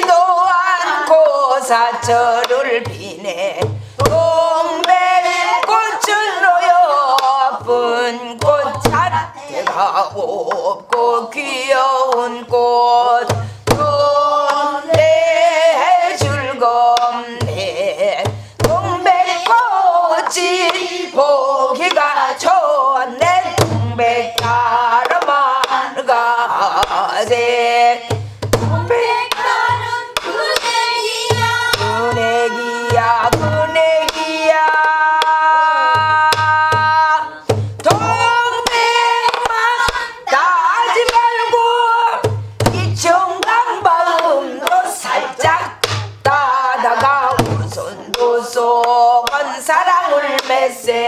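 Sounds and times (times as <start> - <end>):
woman singing folk song: 0.0 - 51.0.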